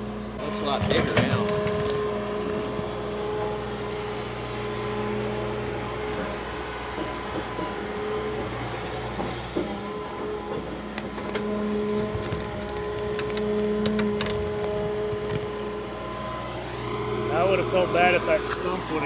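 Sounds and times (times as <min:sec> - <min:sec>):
excavator engine hum: 0:00.0 - 0:19.0.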